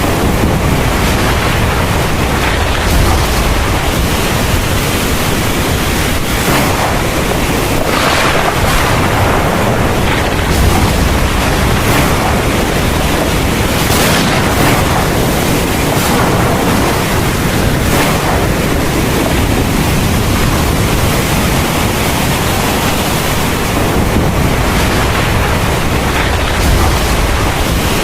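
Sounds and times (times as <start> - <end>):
deep low rumble: 0.0 - 21.9, 23.6 - 28.0
heavy rain pouring: 0.0 - 28.0.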